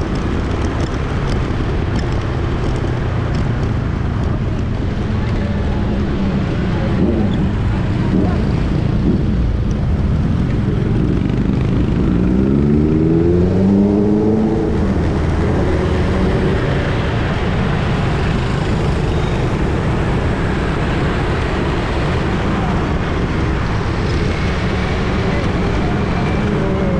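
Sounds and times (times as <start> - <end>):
street traffic noise: 0.0 - 26.9
vehicle engine accelerating: 0.0 - 26.9.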